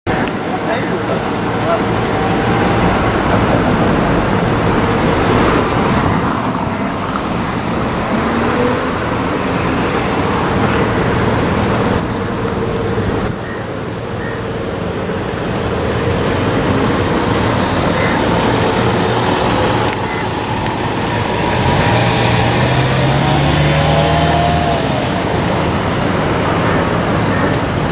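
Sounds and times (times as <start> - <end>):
road traffic passing: 0.0 - 27.9.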